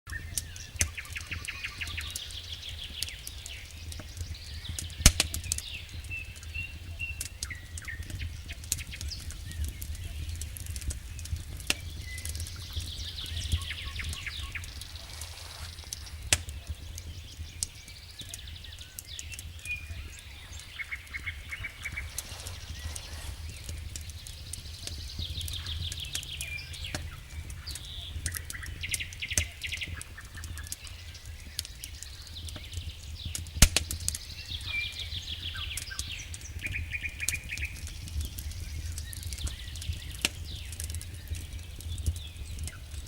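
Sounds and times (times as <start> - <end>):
low fire rumble: 0.1 - 43.0
wood fire crackling: 0.1 - 43.0.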